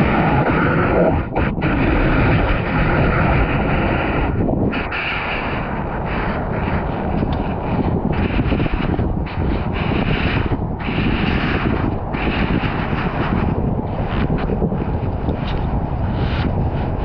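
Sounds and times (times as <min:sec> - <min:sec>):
ocean surf rumbling: 0:00.0 - 0:17.0.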